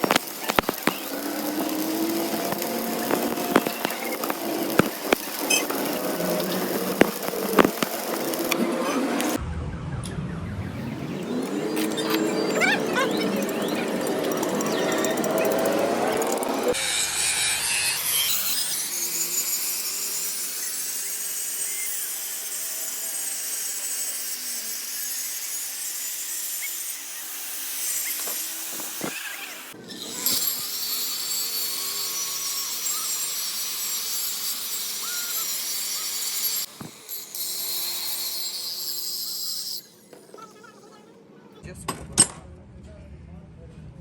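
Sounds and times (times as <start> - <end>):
power tool grinding metal: 0.0 - 9.4, 11.2 - 41.3.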